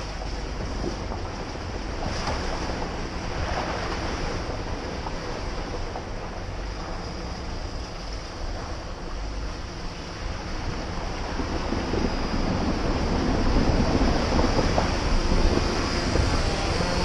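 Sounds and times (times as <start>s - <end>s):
vehicle engine running: 0.0s - 17.0s
water splashing: 0.0s - 17.0s
wind on microphone: 0.0s - 17.0s.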